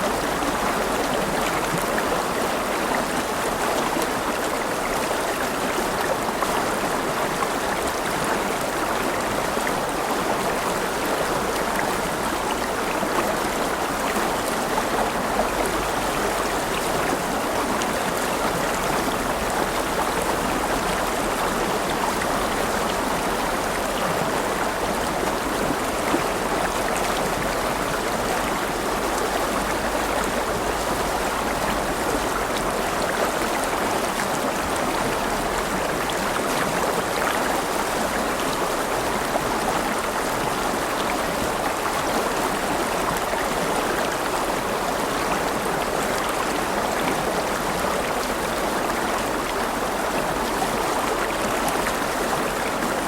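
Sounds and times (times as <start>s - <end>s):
river flowing over rocks: 0.0s - 53.0s.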